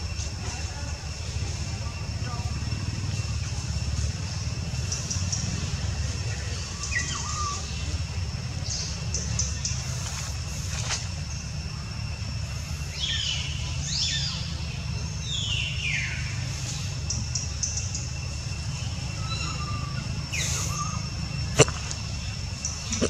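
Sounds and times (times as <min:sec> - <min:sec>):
low forest rumble: 0:00.0 - 0:23.0.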